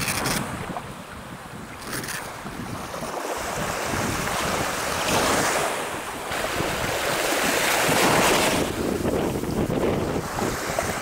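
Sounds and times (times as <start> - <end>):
small waves lapping: 0.0 - 11.0
wind rumbling on microphone: 0.0 - 11.0.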